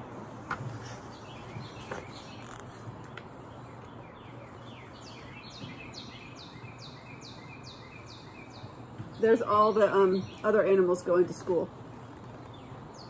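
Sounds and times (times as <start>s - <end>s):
low background hum: 0.0s - 13.0s
songbird chirping: 0.8s - 13.0s.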